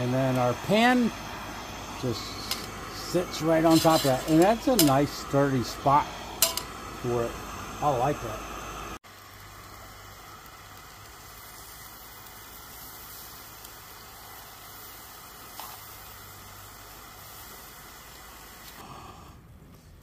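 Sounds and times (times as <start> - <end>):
gas burner hissing: 0.0 - 20.0.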